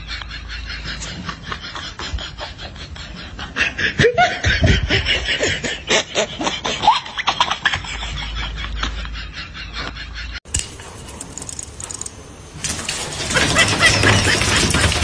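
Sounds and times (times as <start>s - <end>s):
person laughing in choppy bursts: 0.0s - 10.4s, 13.2s - 15.0s.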